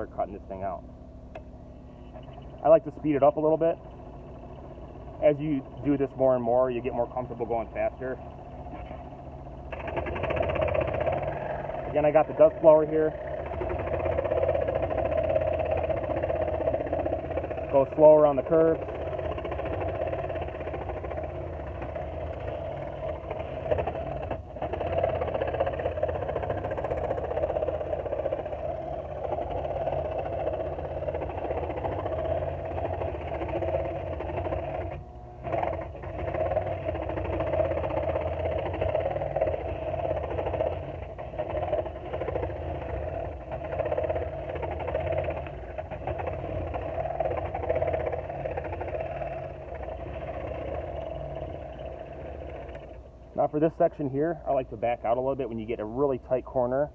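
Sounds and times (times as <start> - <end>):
scroll saw cutting wood: 5.0 - 53.0.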